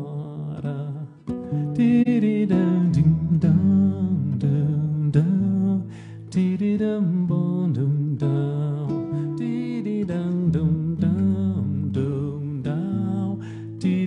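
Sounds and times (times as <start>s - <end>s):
nylon-string guitar: 0.0s - 14.0s.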